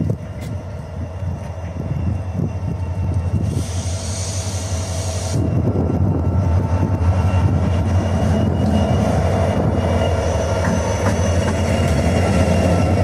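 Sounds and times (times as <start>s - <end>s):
train low drone: 0.0s - 13.0s.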